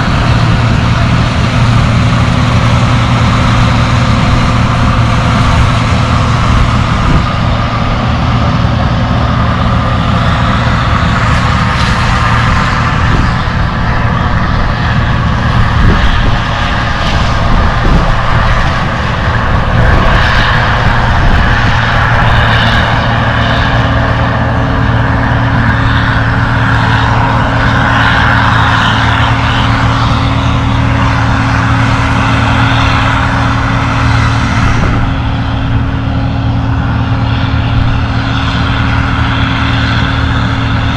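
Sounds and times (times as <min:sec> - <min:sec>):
combine engine drone: 0:00.0 - 0:40.9
threshing machinery whirring: 0:00.0 - 0:40.9.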